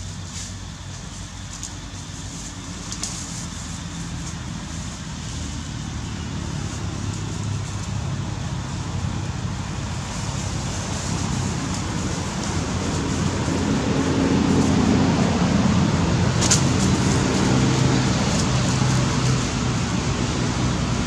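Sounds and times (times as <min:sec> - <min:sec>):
engine running rumble: 0:00.0 - 0:21.0.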